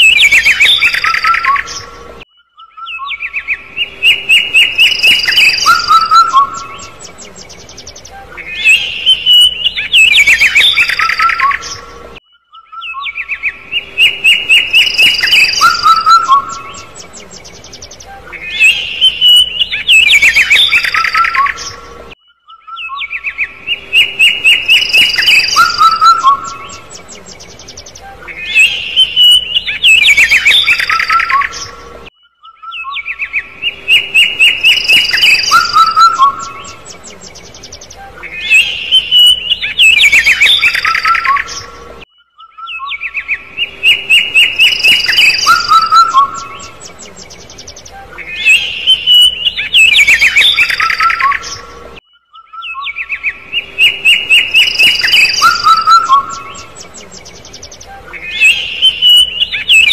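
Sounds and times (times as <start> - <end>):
young birds chirping: 0.0 - 59.9.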